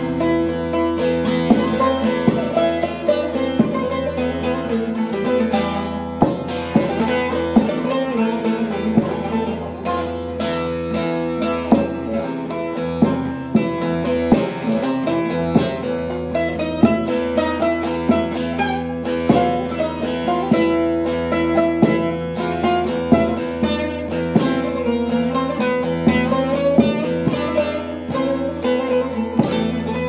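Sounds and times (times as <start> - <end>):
plucked lute melody: 0.0 - 30.0
strings ringing: 0.0 - 30.0.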